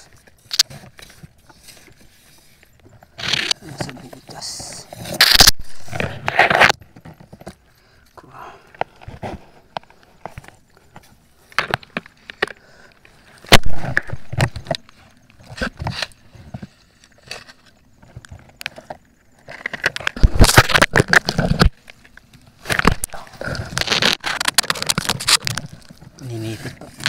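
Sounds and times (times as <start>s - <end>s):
rustling of dry leaves and twigs: 0.0s - 27.0s.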